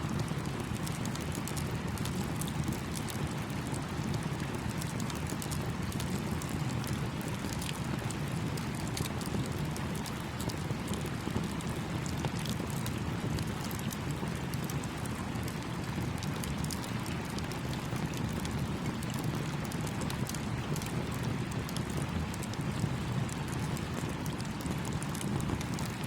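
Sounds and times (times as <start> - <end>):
campfire crackling and popping: 0.1 - 26.0.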